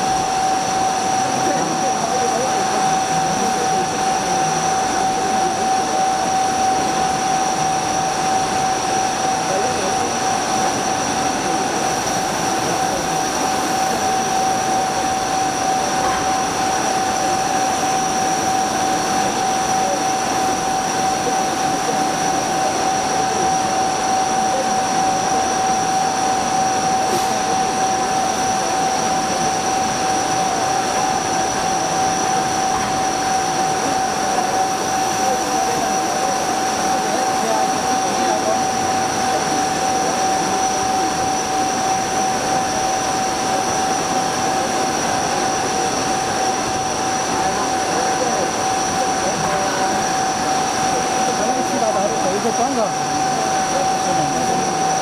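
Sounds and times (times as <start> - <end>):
coolant spray hissing and splashing: 0.0 - 54.8
machine whine: 0.0 - 55.0.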